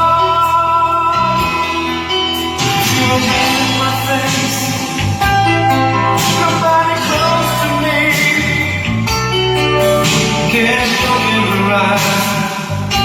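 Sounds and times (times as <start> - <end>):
rock song over speakers: 0.0 - 13.0.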